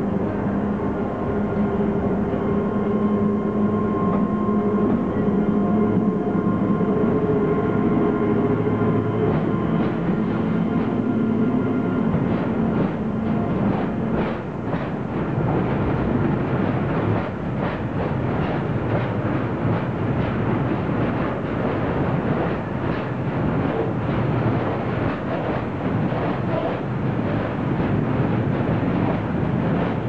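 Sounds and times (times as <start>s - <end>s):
electric locomotive passing: 0.0s - 30.0s
wheels rumbling on rail: 0.0s - 30.0s.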